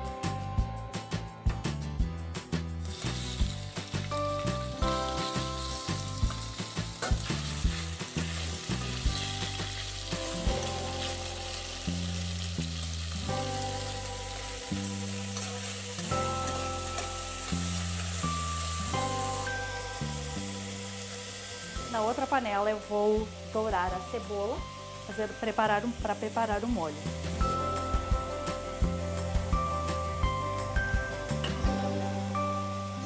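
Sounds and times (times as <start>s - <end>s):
background music: 0.0s - 33.0s
meat sizzling in hot oil: 2.8s - 33.0s.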